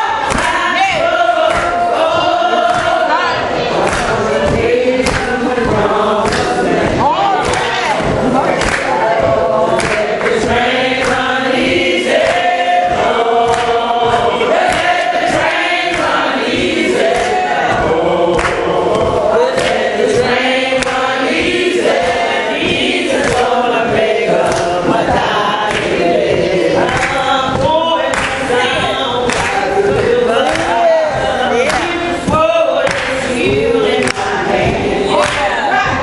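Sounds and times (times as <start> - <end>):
congregation singing gospel song: 0.0 - 36.0
hand claps: 0.2 - 36.0.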